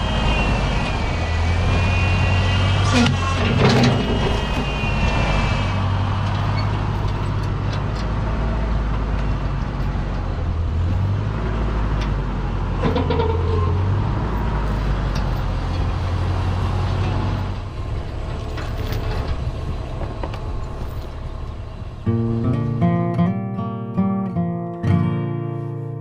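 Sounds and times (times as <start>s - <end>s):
tractor engine running: 0.0s - 23.5s.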